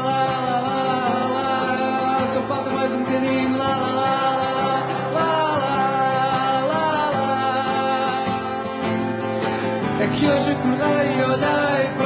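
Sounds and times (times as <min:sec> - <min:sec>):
man singing wordless refrain: 0:00.0 - 0:08.9, 0:09.8 - 0:12.0
acoustic guitar: 0:00.0 - 0:12.0.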